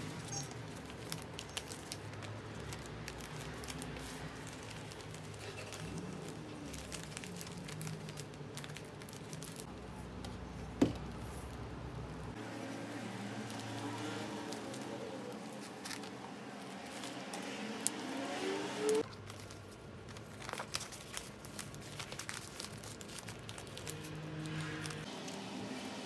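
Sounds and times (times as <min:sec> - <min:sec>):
wrapping paper crinkling: 0:00.0 - 0:26.0.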